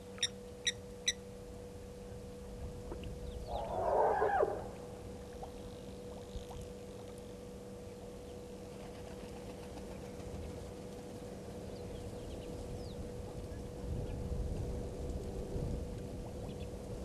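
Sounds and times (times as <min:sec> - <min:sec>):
steady low rumble: 0:00.0 - 0:08.8, 0:10.2 - 0:17.0
faint hum: 0:00.0 - 0:17.0.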